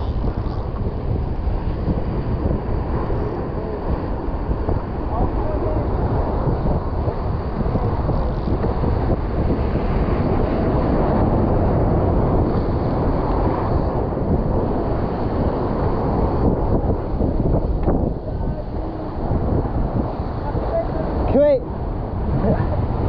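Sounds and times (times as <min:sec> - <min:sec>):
wind buffeting microphone: 0:00.0 - 0:23.0
ocean surf breaking on rocks: 0:00.1 - 0:23.0.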